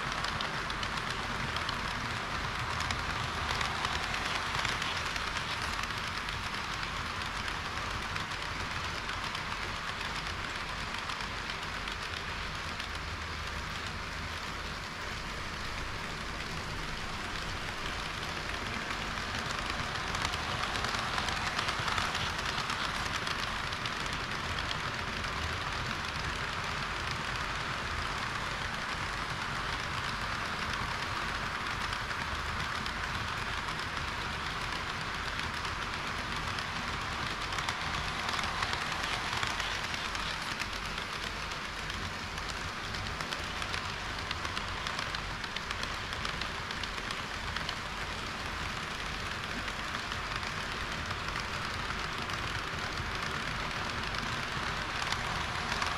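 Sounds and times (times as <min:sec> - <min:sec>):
model train wheels clattering: 0:00.0 - 0:55.9.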